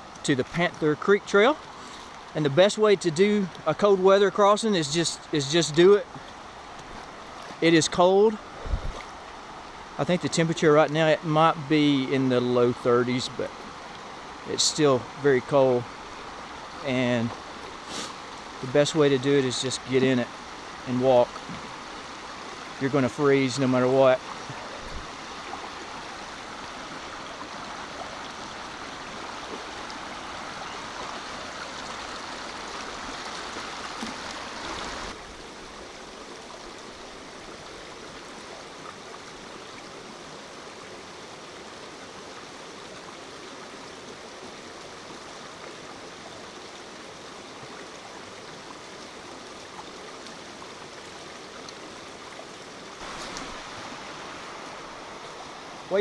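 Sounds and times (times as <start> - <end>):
river flowing: 0.0 - 56.0.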